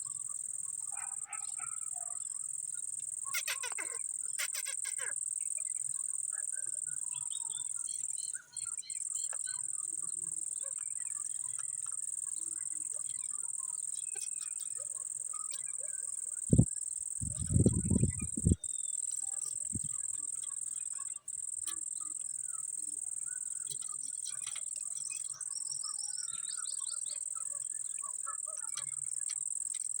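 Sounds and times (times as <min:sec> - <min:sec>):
insects chirring: 0:00.0 - 0:30.0
faint bird chirps: 0:03.2 - 0:30.0.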